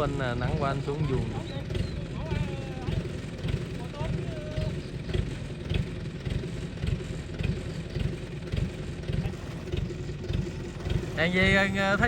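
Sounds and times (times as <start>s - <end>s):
combine harvester engine humming: 0.0s - 12.0s.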